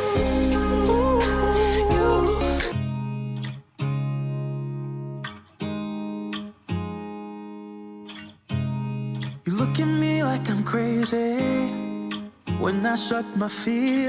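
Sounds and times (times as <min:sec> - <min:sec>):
guitar chords ringing out: 0:00.0 - 0:14.0.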